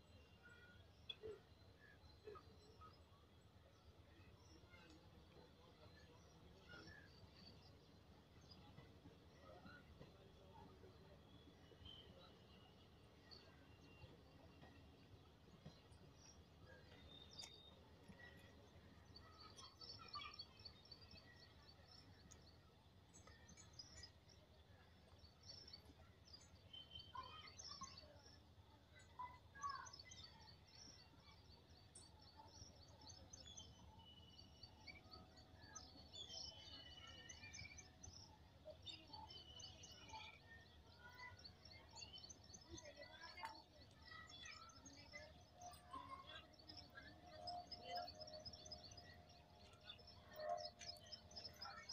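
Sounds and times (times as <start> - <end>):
small birds chirping: 0.2 - 51.9.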